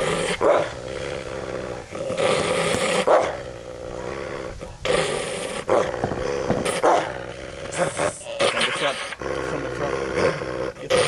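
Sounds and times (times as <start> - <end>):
wolf growling and snarling: 0.0 - 11.0.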